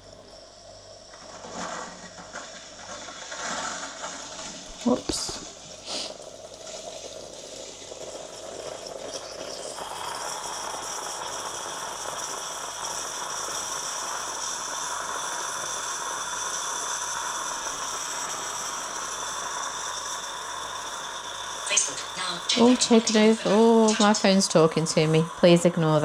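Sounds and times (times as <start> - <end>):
coffee machine pump hiss and hum: 0.0 - 26.0.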